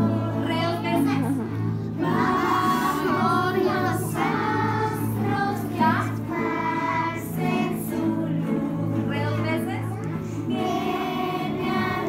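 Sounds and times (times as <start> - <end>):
acoustic guitars strumming: 0.0 - 12.0
children singing: 0.0 - 12.0.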